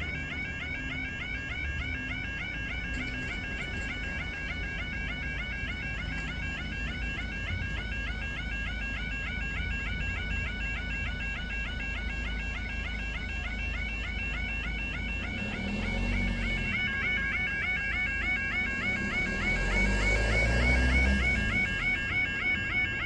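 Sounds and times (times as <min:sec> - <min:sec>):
level crossing alarm warbling: 0:00.0 - 0:23.0.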